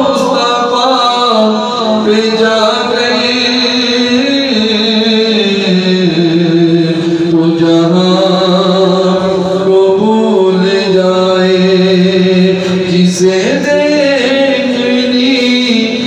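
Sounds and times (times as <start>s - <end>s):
man chanting devotional song: 0.0s - 16.0s.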